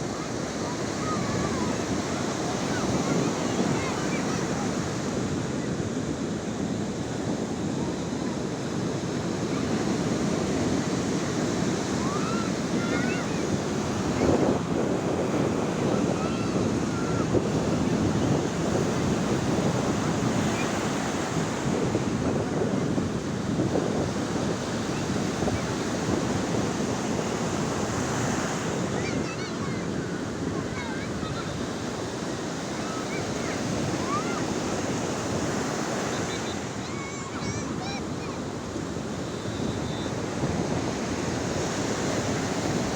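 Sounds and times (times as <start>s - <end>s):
sea waves washing in: 0.0s - 42.9s.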